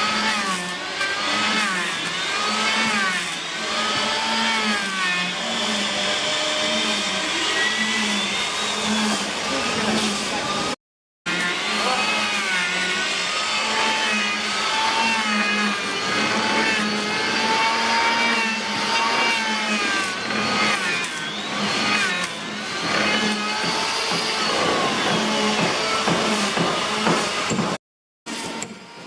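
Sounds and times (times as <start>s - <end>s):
power tool motor whining: 0.0s - 27.5s.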